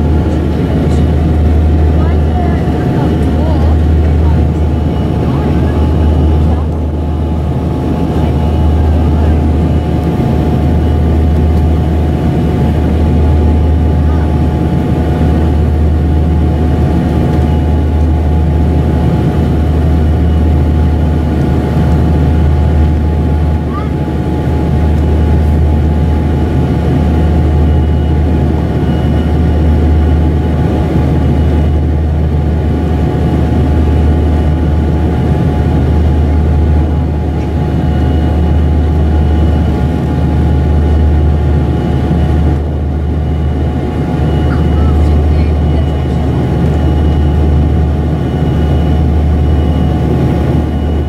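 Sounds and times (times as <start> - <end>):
high steady engine tone: 0.0 - 51.0
turboprop engines droning in cabin: 0.0 - 51.0.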